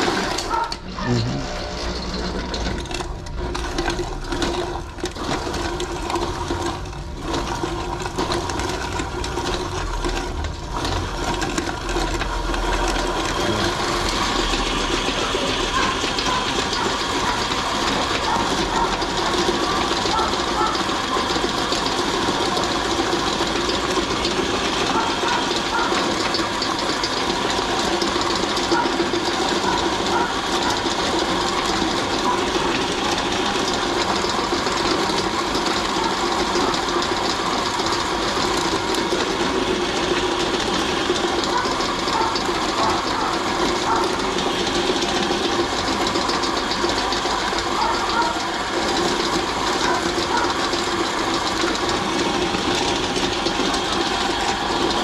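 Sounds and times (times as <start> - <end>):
electric meat grinder running: 0.0 - 55.0.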